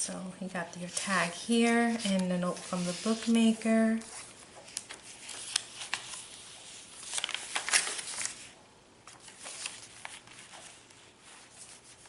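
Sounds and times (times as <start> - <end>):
paper and card rustling: 0.7 - 12.0.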